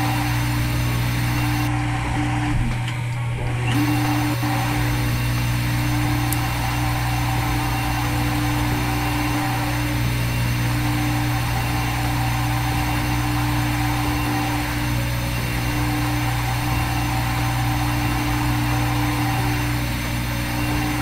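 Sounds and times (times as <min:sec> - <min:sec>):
machine spindle hum and whir: 0:00.0 - 0:21.0.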